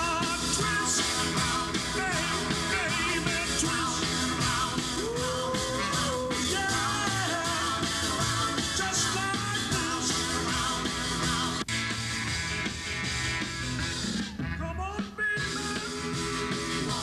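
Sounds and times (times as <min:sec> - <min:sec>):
rock and roll song with singer: 0:00.0 - 0:17.0.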